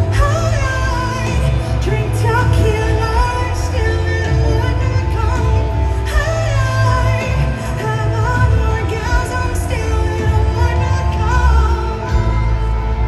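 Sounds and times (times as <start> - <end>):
heavy bass: 0.0 - 13.0
live rock band playing: 0.0 - 13.0
woman singing: 0.0 - 13.0.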